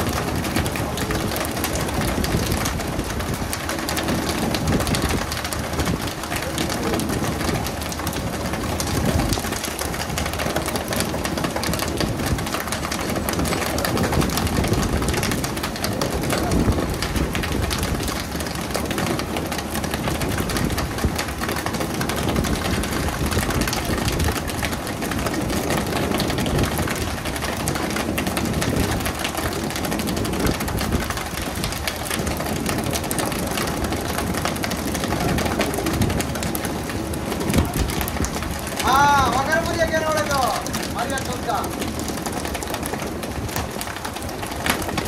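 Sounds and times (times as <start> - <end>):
water rushing and spray: 0.0 - 45.0.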